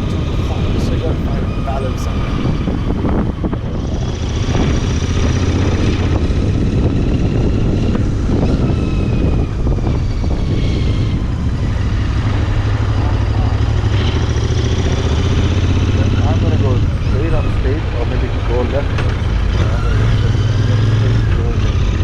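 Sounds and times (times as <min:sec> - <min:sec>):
motorcycle engine running: 0:00.0 - 0:22.0
road noise: 0:00.0 - 0:22.0
wind: 0:00.0 - 0:22.0.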